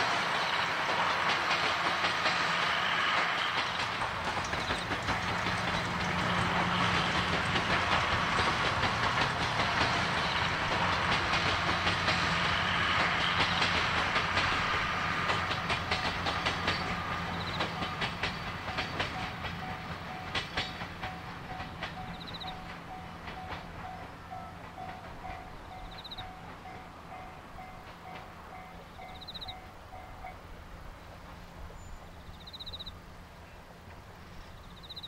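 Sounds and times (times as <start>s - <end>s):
steam train wheels clicking on rails: 0.0s - 35.0s.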